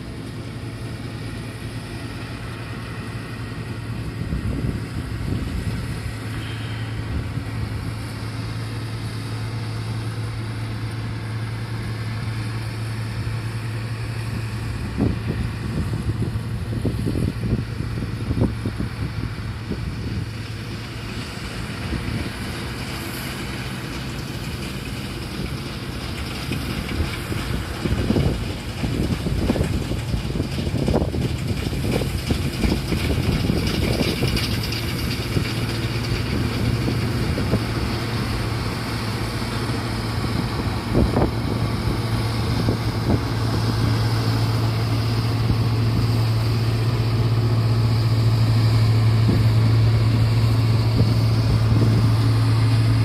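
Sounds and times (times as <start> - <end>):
combine harvester engine hum: 0.0 - 53.0.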